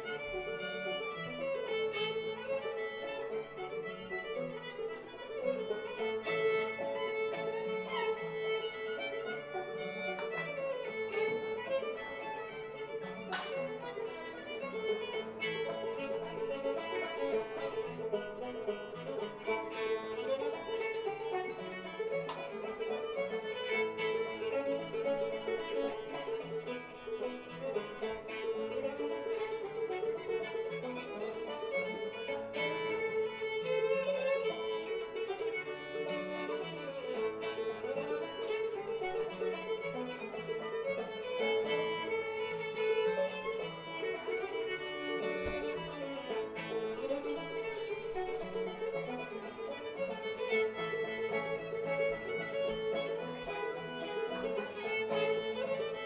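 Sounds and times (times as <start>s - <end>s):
fiddle tune with drone: 0.0s - 56.0s
plucked string backing: 0.0s - 56.0s.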